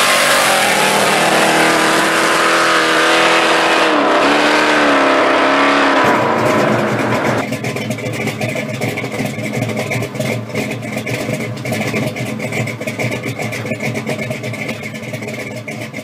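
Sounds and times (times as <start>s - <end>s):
car engine running roughly: 0.0s - 16.0s.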